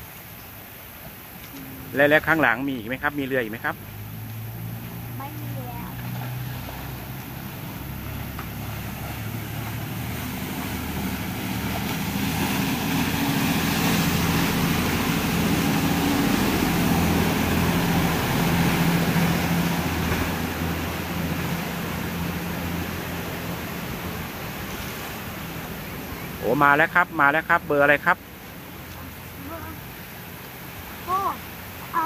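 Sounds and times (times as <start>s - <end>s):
churning boat wake: 0.0s - 32.0s
boat diesel engine running: 1.5s - 32.0s.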